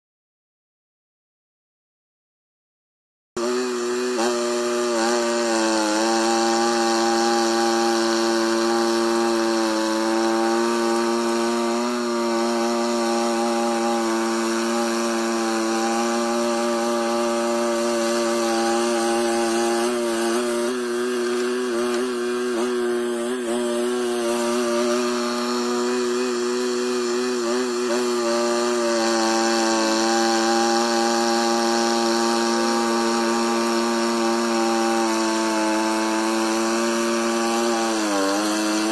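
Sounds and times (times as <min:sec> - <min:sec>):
mini loader engine drone: 0:03.4 - 0:38.9.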